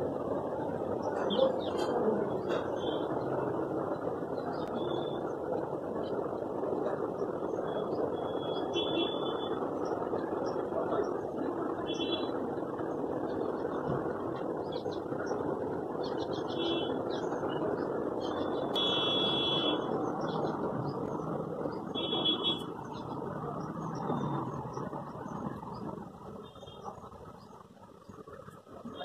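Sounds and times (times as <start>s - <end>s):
distant traffic rushing: 0.0s - 29.0s.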